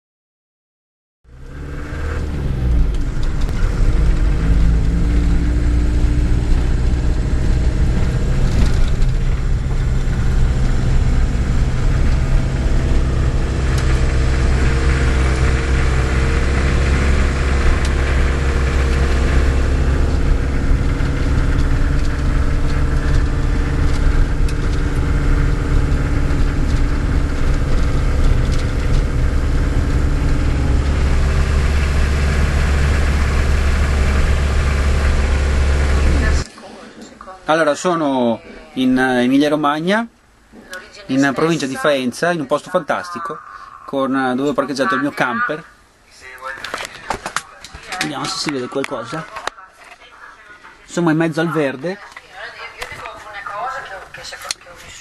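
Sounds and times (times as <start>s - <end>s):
road noise: 1.2s - 55.0s
engine droning: 1.3s - 37.8s, 40.1s - 55.0s.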